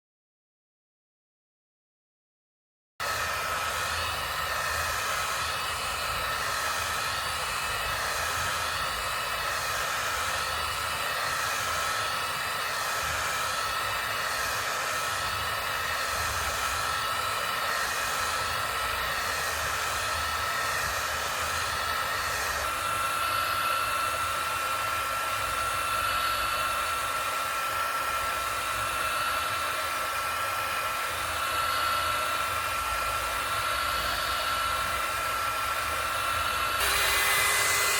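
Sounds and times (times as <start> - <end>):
fan whooshing with high whine: 3.0 - 37.9.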